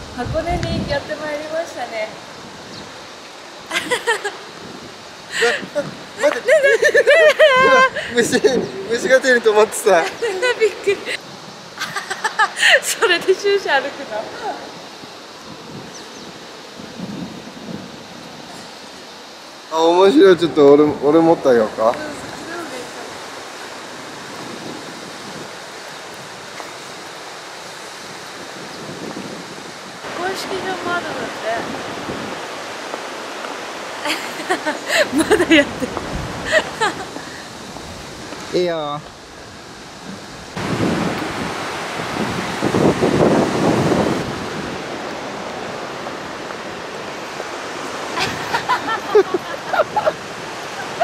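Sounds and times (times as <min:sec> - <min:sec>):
river flowing over stones: 0:00.9 - 0:51.0.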